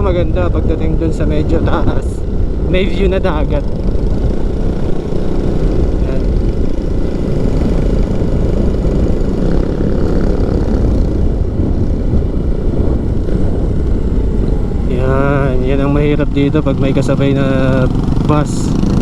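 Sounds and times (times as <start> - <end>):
motorcycle running: 0.0 - 19.0
wind buffeting microphone: 0.0 - 19.0.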